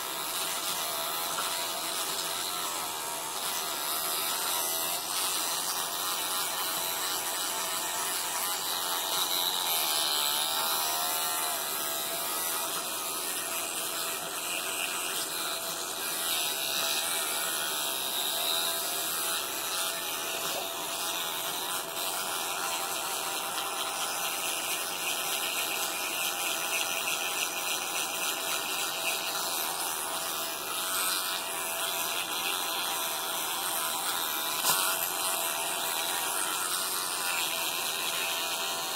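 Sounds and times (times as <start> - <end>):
electric toothbrush buzzing: 0.0 - 38.9.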